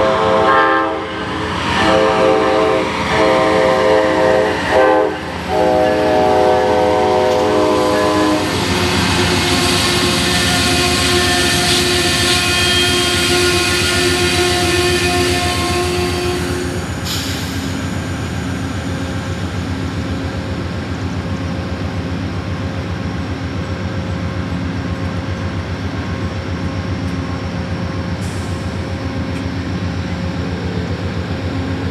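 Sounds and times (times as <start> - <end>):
train wheels rumbling on rail: 0.0 - 31.9.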